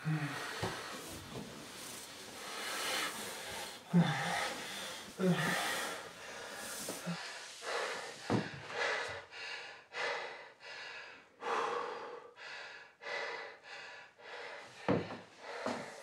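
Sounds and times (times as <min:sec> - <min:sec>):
man breathing heavily: 0:00.0 - 0:16.0.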